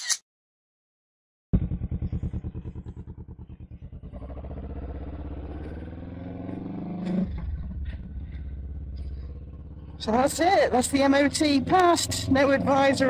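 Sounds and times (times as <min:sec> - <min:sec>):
motorcycle engine revving: 0:01.5 - 0:13.0.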